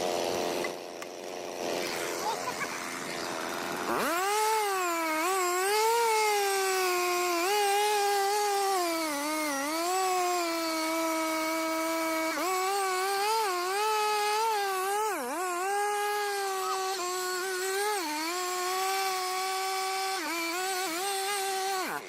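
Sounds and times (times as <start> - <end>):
high-revving saw motor whine: 0.0 - 22.0.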